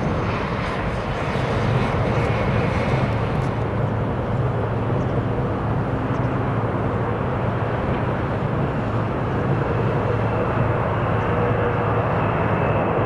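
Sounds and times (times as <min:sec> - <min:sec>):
jet airliner engine drone: 0:00.0 - 0:13.0.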